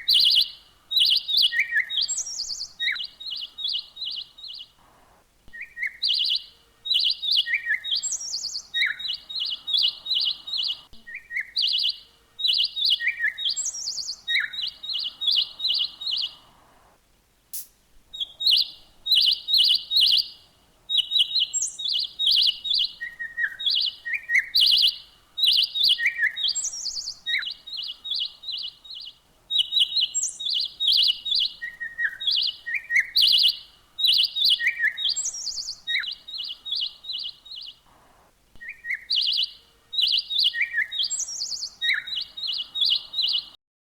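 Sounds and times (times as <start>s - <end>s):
songbird singing: 0.0s - 43.6s.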